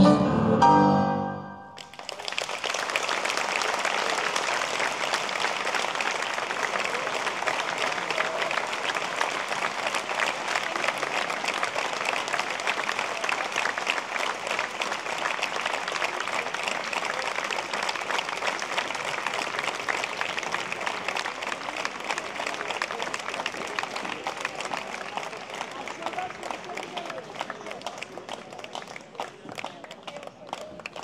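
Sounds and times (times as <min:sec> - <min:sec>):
audience applause: 0:01.8 - 0:31.0.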